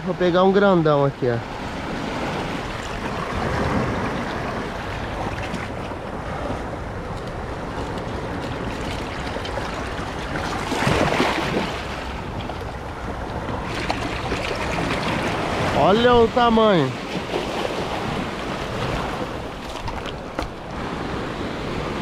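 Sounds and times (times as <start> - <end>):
surf sloshing between rocks: 0.6 - 22.0.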